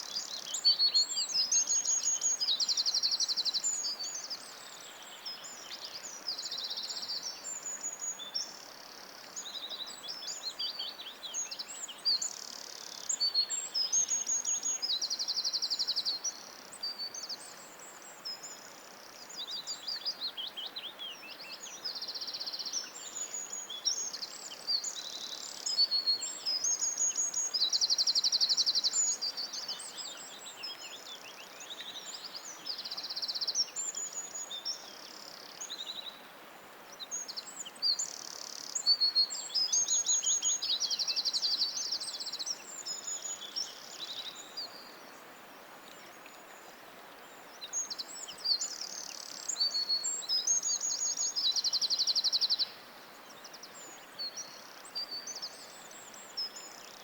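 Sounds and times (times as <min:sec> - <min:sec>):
songbirds singing: 0:00.0 - 0:36.3, 0:36.9 - 0:57.0
faint steady background hiss: 0:00.0 - 0:57.0.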